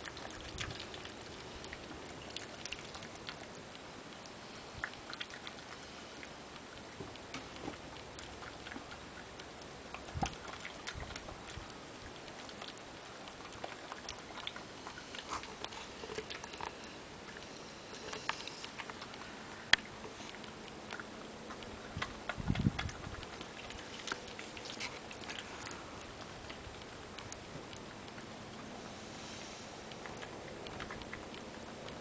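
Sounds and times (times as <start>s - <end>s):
badger chewing and smacking: 0.0s - 32.0s.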